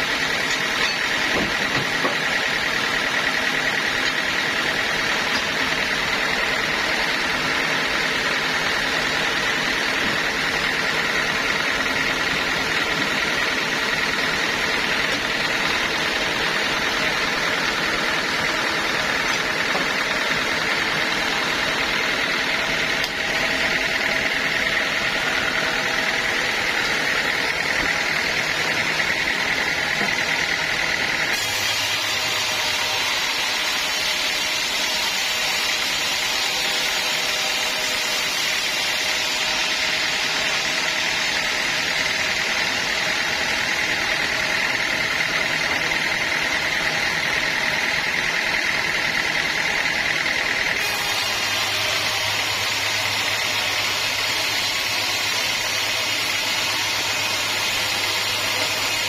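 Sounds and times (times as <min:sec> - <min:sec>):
saw blade whining: 0:00.0 - 0:59.0
sawmill engine hum: 0:00.0 - 0:59.0.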